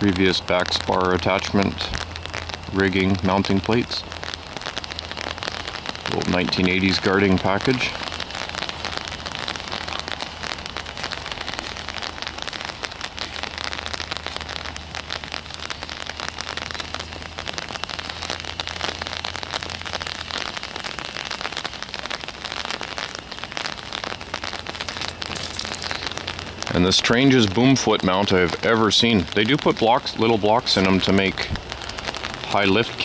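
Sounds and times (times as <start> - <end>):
light rain pattering: 0.0 - 33.0.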